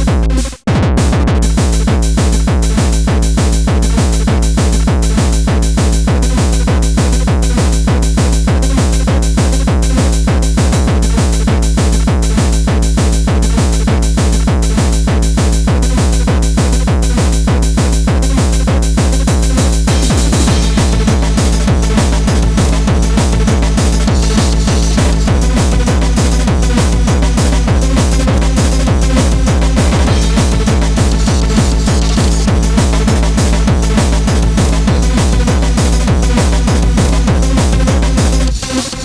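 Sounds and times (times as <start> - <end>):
loud fast kick drum: 0.0 - 38.9
fast hardcore techno: 0.0 - 39.0.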